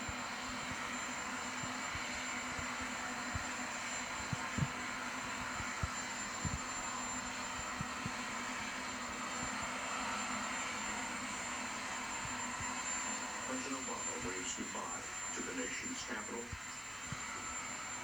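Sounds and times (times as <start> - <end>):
helicopter turbine engines running: 0.0 - 18.0.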